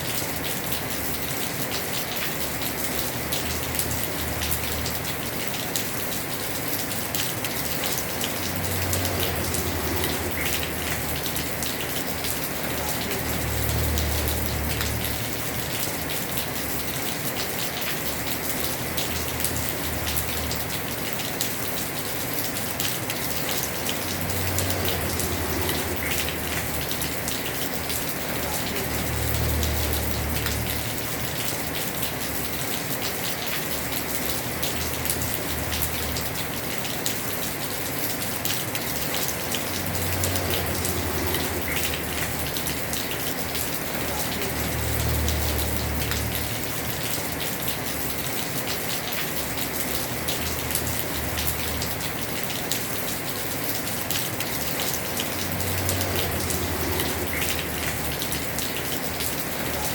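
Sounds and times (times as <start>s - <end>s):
heavy rain on roof: 0.0s - 59.9s.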